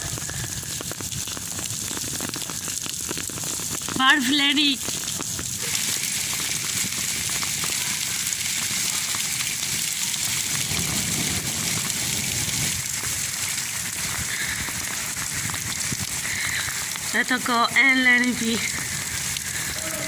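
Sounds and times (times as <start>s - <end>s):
heavy rain pouring: 0.0s - 20.0s
small hailstones ticking: 0.0s - 20.0s.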